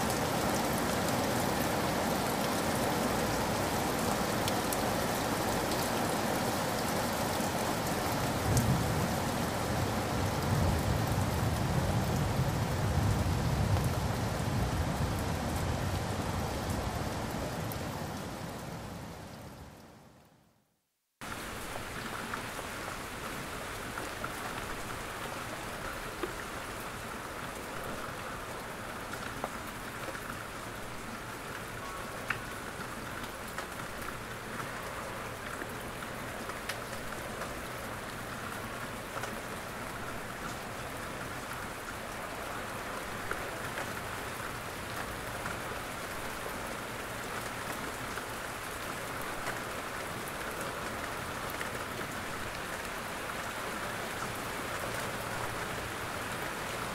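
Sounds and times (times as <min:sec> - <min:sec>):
rain hiss: 0:00.0 - 0:20.4, 0:21.2 - 0:56.9.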